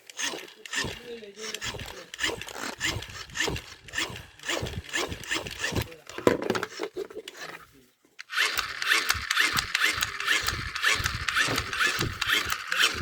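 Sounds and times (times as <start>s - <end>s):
rattling clicks: 0.0s - 7.6s, 8.2s - 13.0s
toy fan motor whirring: 0.0s - 7.6s, 8.2s - 13.0s.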